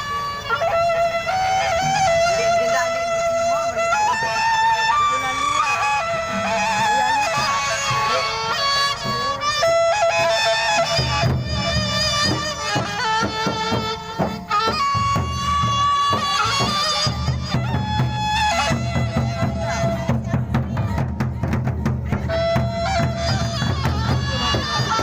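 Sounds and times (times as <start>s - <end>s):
large drums: 0.0s - 25.0s
reedy wind instrument melody: 0.0s - 25.0s.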